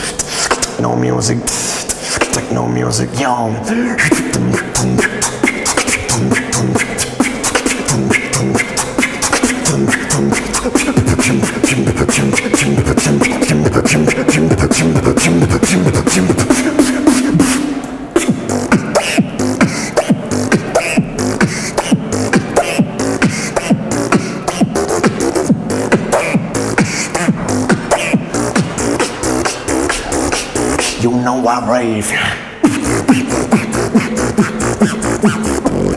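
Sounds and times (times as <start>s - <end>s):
person beatboxing: 0.0s - 35.9s.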